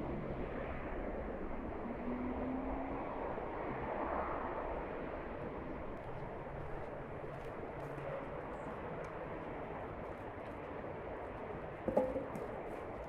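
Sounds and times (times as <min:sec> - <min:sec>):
faint engine hum: 0:00.0 - 0:13.0.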